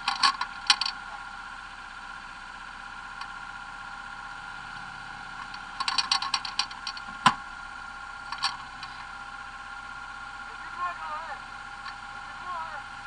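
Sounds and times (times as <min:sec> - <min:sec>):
racing engines humming: 0:00.0 - 0:13.0.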